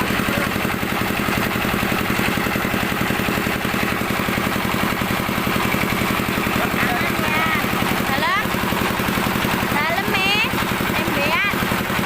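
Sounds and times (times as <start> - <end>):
motor chugging rapidly: 0.0 - 12.0.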